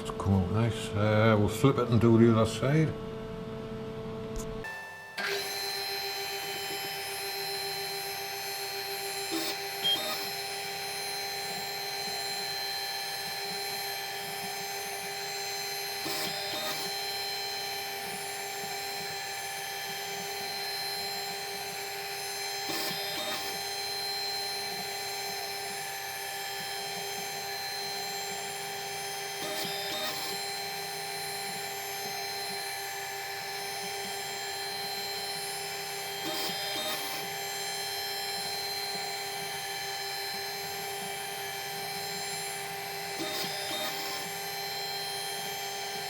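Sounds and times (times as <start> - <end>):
machine tool whining: 4.6 - 46.0.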